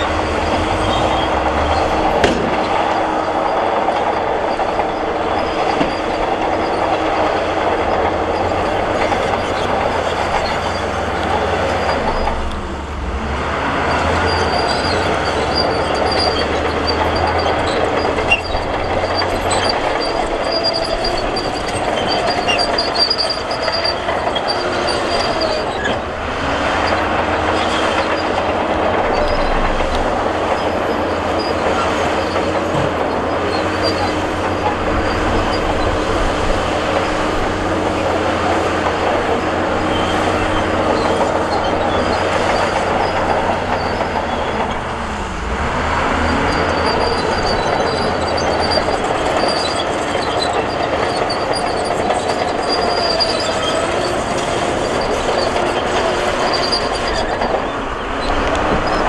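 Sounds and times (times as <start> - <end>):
bulldozer diesel engine: 0.0 - 59.0
steel tracks clanking: 0.0 - 59.0.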